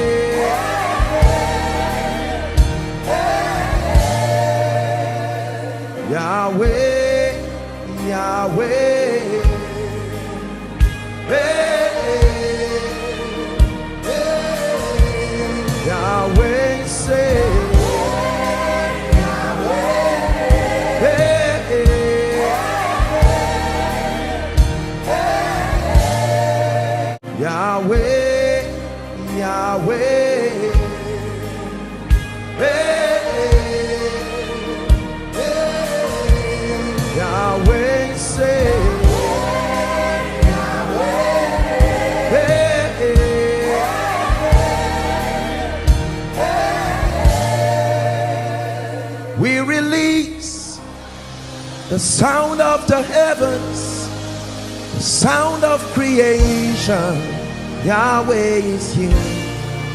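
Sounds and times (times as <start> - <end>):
band playing: 0.0 - 59.9
voices singing gospel song: 0.0 - 59.9.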